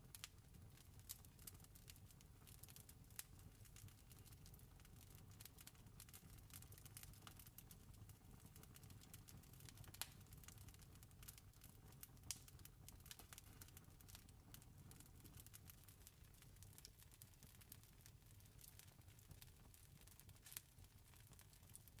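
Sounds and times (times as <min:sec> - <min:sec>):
campfire crackling and popping: 0:00.1 - 0:22.0.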